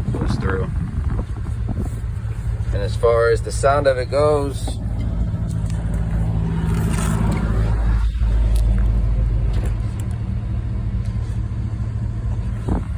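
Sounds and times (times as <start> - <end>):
deep bass from car subwoofers: 0.0 - 12.9.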